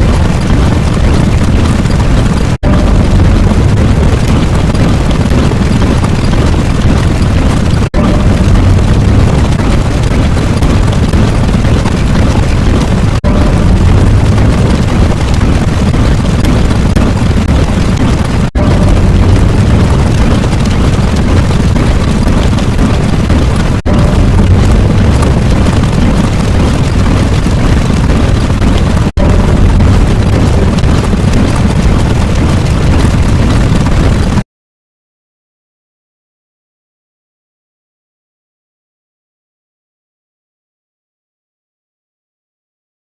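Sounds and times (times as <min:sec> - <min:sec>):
explosion-like rumble: 0:00.0 - 0:34.4.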